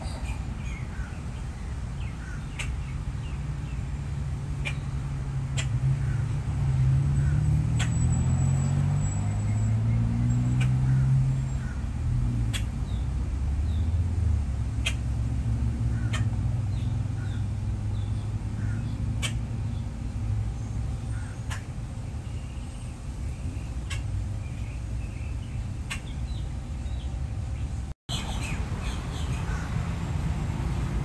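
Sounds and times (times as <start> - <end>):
low vehicle rumble: 0.0 - 31.0.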